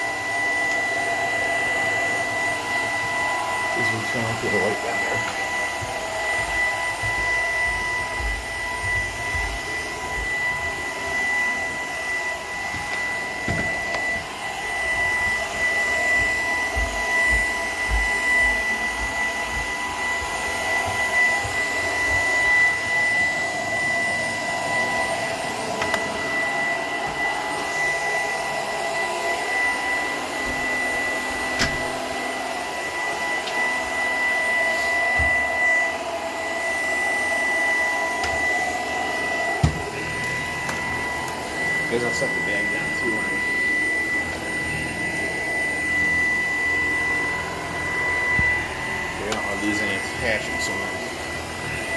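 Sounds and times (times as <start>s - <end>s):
vacuum cleaner whining: 0.0s - 51.9s.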